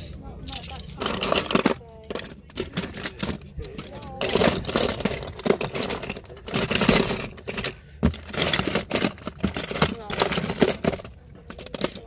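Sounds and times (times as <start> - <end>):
toy cars clattering: 0.4 - 12.0.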